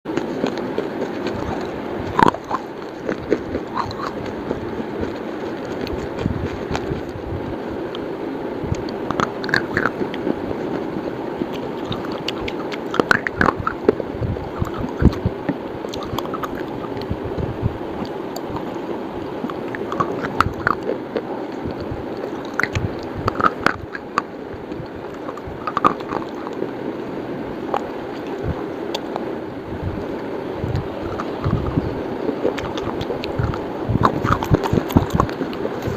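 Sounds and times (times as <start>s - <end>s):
crunching and chewing: 0.1s - 7.3s, 8.7s - 29.3s, 30.0s - 35.9s.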